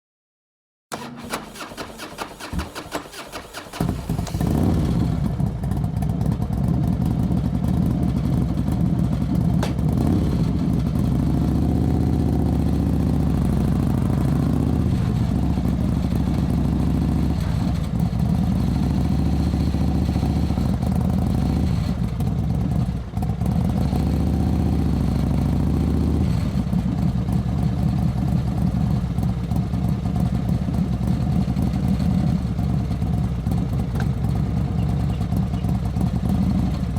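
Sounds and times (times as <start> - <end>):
motorcycle engine running: 2.3 - 36.9.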